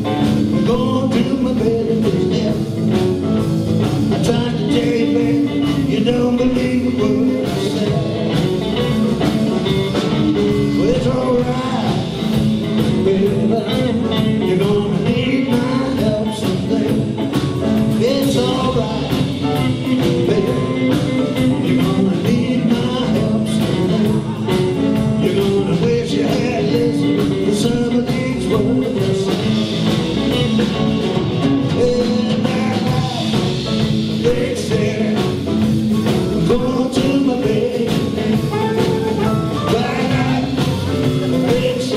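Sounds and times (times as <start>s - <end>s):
person singing: 0.0s - 3.0s, 4.0s - 41.9s
live blues band: 0.0s - 41.9s.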